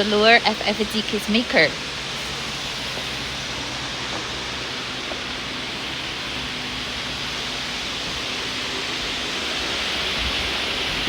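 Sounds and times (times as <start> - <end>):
low machine hum: 0.0 - 11.0
machine hiss-like wash: 0.0 - 11.0.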